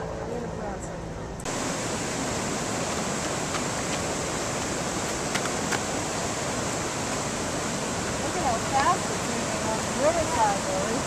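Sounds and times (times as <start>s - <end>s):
water rushing over spillway: 1.4s - 11.0s.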